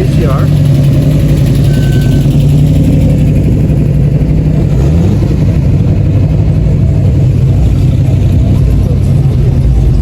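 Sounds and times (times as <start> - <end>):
car engine drone: 0.0 - 10.0
road noise: 0.0 - 10.0.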